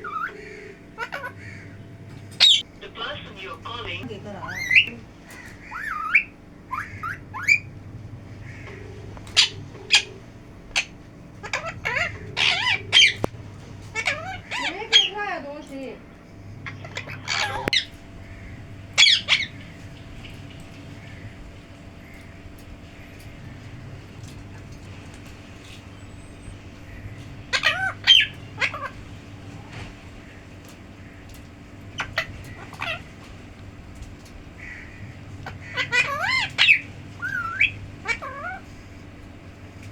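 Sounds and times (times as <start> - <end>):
parrot squawking: 0.0 - 33.8, 34.5 - 39.9.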